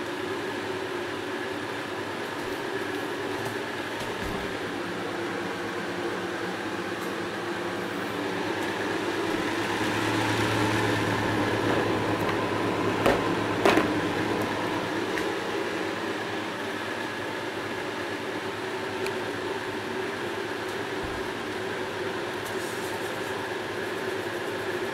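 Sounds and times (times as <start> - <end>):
electric fan motor humming: 0.0 - 24.9.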